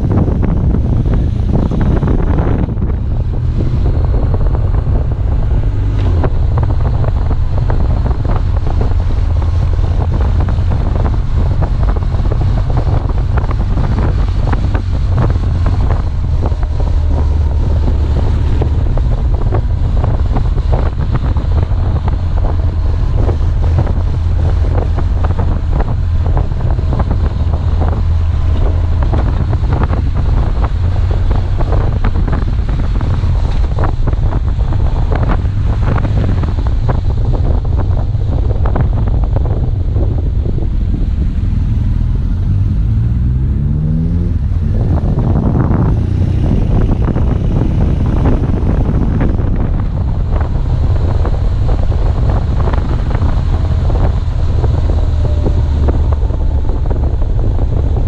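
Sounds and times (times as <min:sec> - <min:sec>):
motorcycle engine rumble: 0:00.0 - 0:58.0
wind buffeting microphone: 0:00.0 - 0:58.0.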